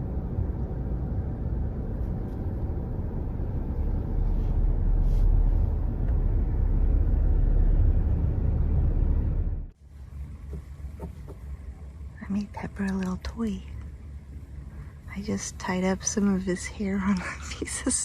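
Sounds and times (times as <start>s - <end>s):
road and engine noise in car: 0.0s - 18.0s.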